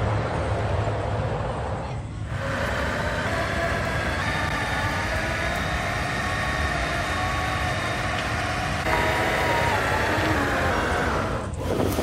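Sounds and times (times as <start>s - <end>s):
high whine: 0.0s - 11.6s
excavator diesel engine running: 0.0s - 12.0s.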